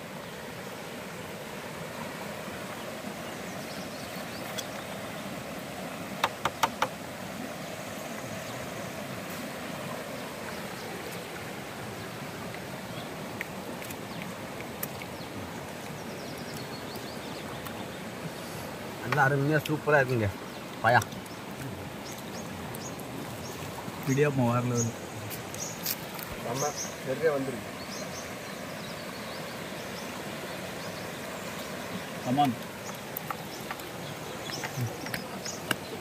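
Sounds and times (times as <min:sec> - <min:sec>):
stream flowing over rocks: 0:00.0 - 0:36.0.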